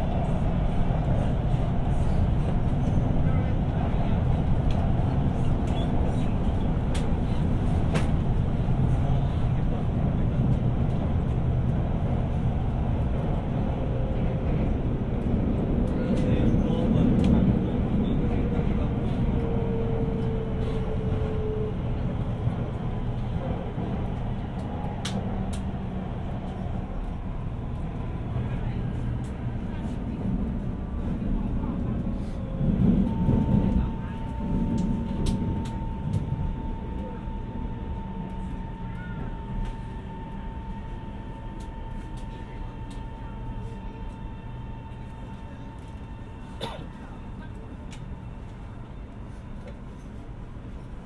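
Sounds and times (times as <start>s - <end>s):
faint train whine: 0.0s - 51.0s
train wheels rumbling: 0.0s - 51.0s.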